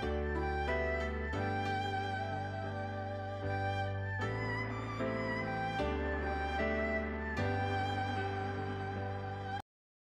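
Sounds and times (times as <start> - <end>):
slow sustained background music: 0.0 - 9.6.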